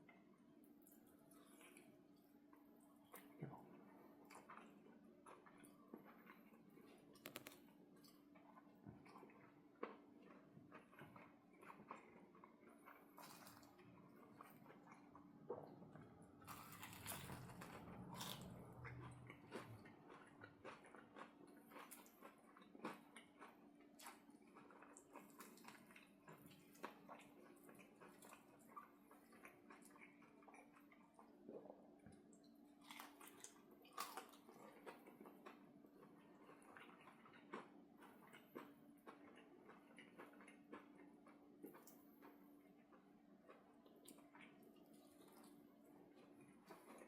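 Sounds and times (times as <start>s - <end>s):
faint steady hum: 0.0s - 47.0s
person chewing crunchy food: 3.0s - 47.0s.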